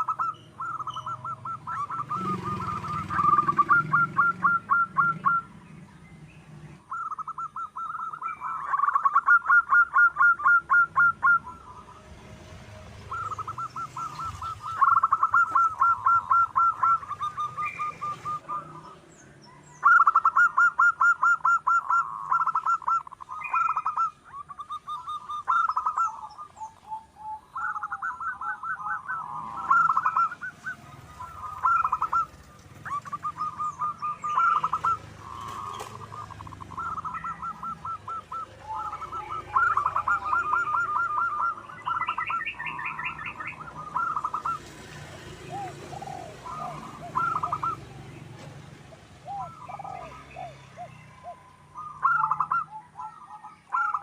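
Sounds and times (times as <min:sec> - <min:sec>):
dove cooing rapidly: 0:00.0 - 0:05.9, 0:06.8 - 0:12.2, 0:12.9 - 0:54.0.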